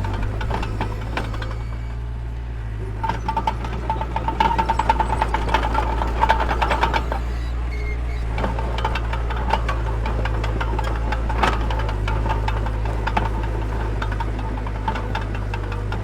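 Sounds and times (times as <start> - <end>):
metallic clanking and rattling: 0.0 - 2.0, 2.8 - 16.0
bulldozer diesel engine running: 0.0 - 16.0.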